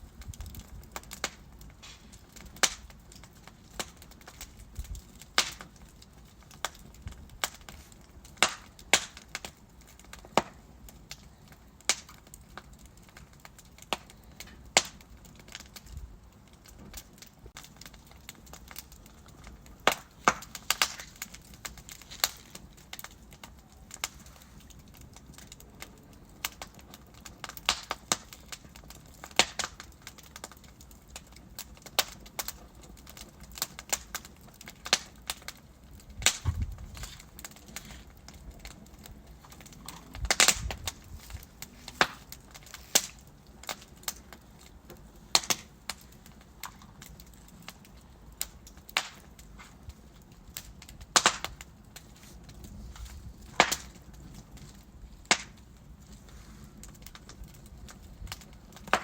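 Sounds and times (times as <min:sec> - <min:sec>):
low fire hiss: 0:00.0 - 0:59.0
wood fire crackling: 0:00.0 - 0:59.0.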